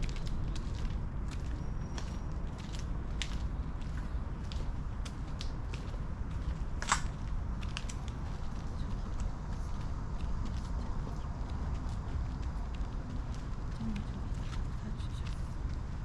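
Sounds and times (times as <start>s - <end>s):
footsteps on pavement: 0.0s - 16.0s
steady low rumble: 0.0s - 16.0s.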